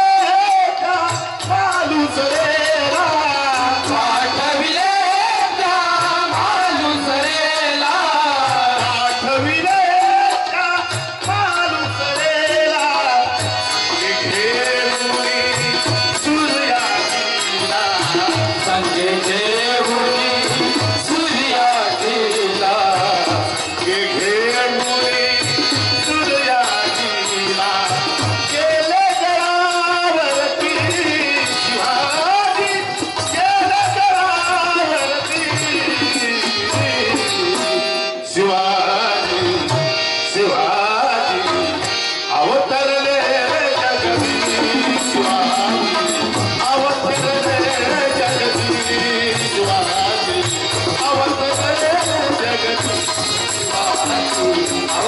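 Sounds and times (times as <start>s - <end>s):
man singing devotional song: 0.0s - 55.0s.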